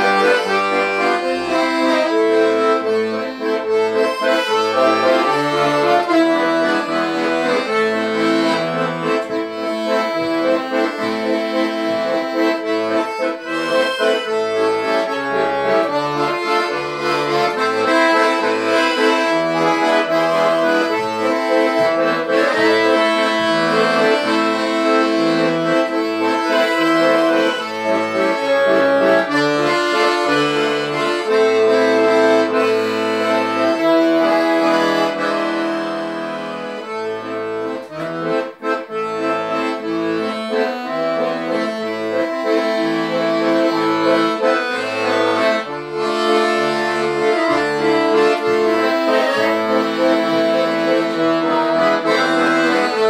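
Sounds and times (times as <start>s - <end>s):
piano accordion playing: 0.0s - 53.0s.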